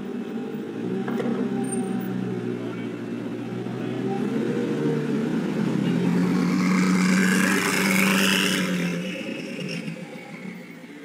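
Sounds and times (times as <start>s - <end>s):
car engine pulling away: 0.0s - 11.0s.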